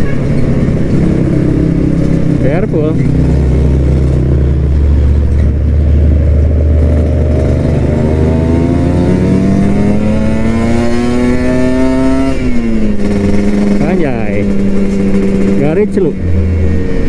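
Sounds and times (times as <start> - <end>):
motorcycle engine revving up: 0.0 - 17.0.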